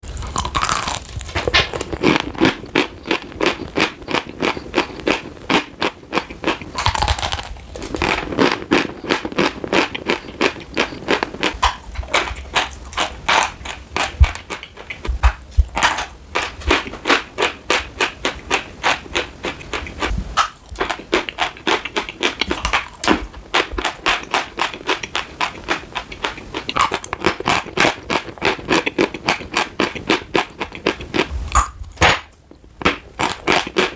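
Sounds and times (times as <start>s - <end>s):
chalk being chewed: 0.2s - 15.8s, 16.4s - 31.8s.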